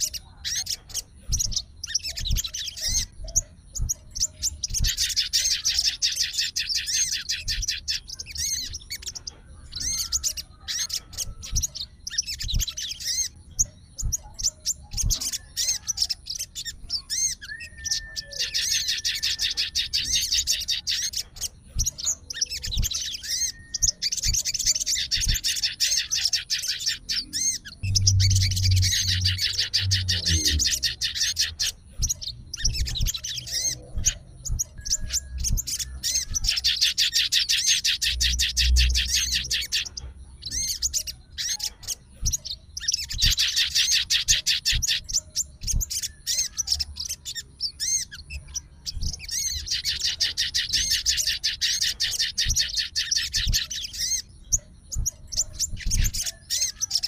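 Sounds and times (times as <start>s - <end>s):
songbird singing rapid chattering notes: 0.0s - 57.0s.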